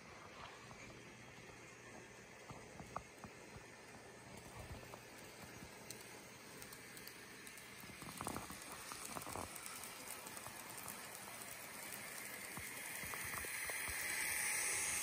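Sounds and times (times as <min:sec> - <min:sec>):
light hiss: 0:00.0 - 0:15.0
model train wheels clicking: 0:02.6 - 0:15.0.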